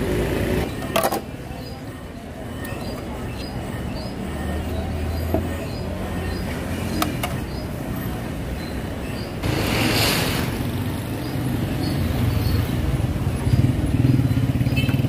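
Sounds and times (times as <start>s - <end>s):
motorcycle engine rumbling: 0.0s - 15.0s
street traffic: 0.0s - 15.0s.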